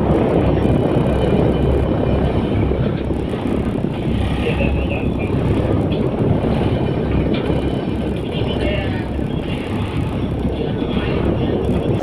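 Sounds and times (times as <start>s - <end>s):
wind and sea rumble: 0.0s - 12.0s
wind buffeting microphone: 0.0s - 12.0s.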